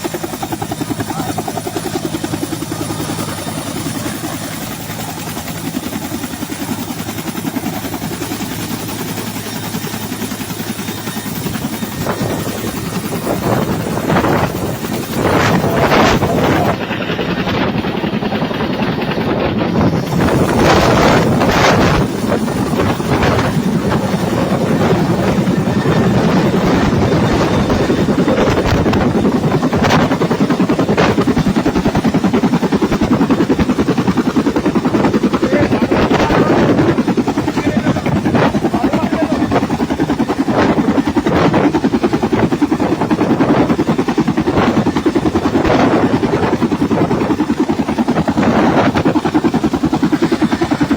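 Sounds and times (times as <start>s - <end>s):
engine whine: 0.0s - 50.9s
helicopter rotor thudding: 0.0s - 50.9s.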